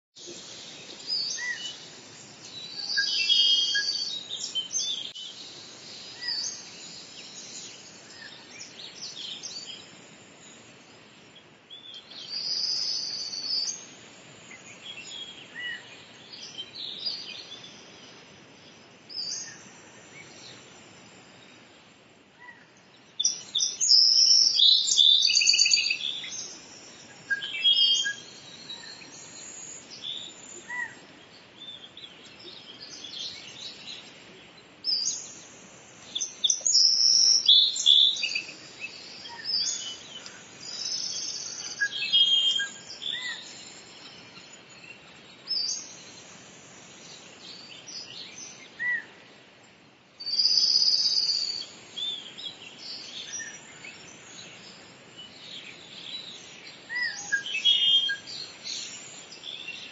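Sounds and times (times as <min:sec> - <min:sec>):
birds chirping: 0:00.2 - 0:59.9
trilled birdsong: 0:00.2 - 0:59.9.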